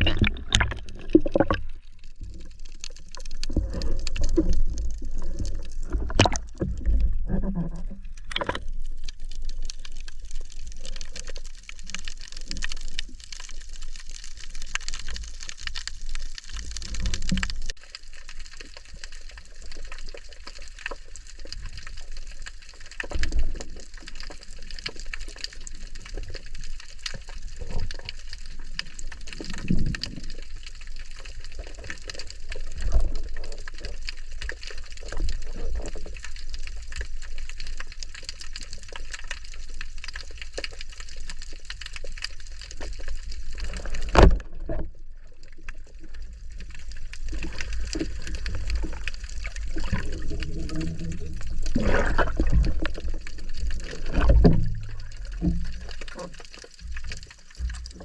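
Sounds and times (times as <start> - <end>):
water wash with crackling clicks: 0.0 - 58.0.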